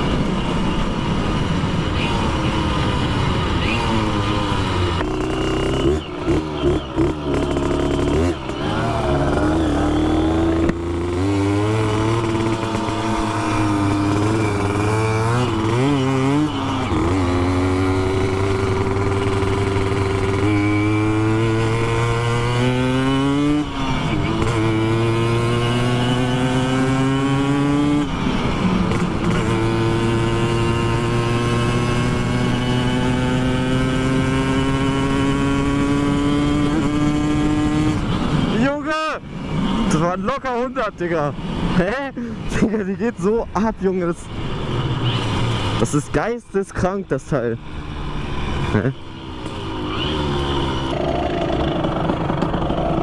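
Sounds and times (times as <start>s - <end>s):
moped engine revving at speed: 0.0s - 53.0s.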